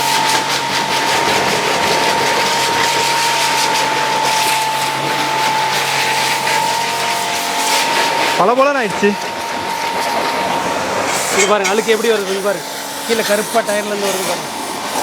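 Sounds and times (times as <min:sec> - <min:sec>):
pressure washer motor whine: 0:00.0 - 0:15.0
water jet spraying: 0:00.0 - 0:15.0.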